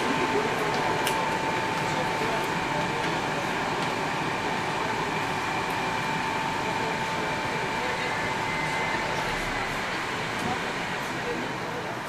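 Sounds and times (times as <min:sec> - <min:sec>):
ventilation hum and hiss: 0:00.0 - 0:12.0.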